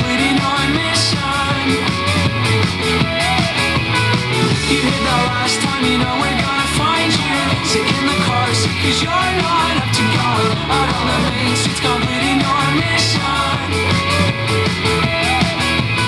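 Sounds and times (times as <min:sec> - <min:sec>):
rock song over speaker: 0:00.0 - 0:16.0.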